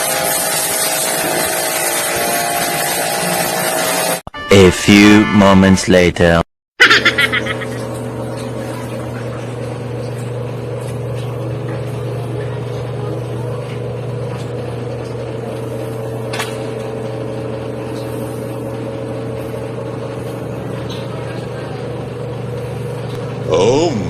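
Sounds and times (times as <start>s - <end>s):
machine hum: 0.1s - 24.0s.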